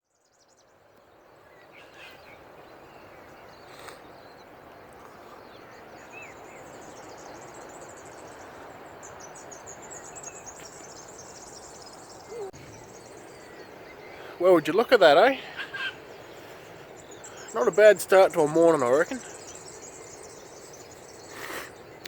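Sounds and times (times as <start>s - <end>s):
bird chirps: 0.1s - 22.0s.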